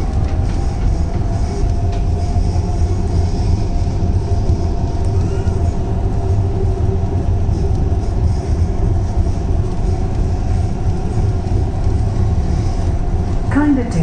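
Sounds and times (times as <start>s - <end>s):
constant low hum: 0.0s - 14.0s
train wheels rumbling on rail: 0.0s - 14.0s.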